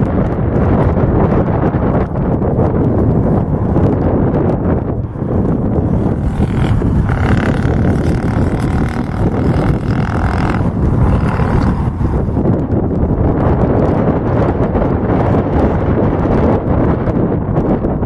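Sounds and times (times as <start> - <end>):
airliner landing rumble: 0.0 - 15.4.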